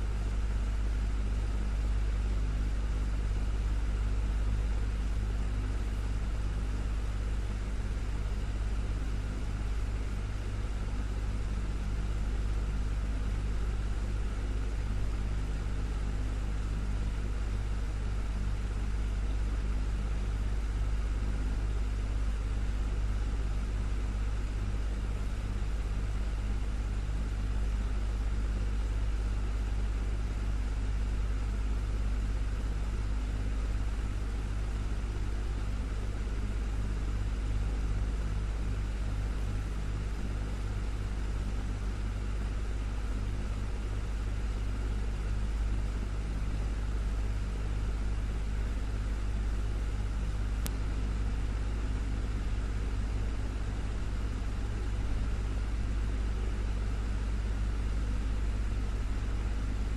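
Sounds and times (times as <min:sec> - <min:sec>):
desktop fan running: 0:00.0 - 0:59.9.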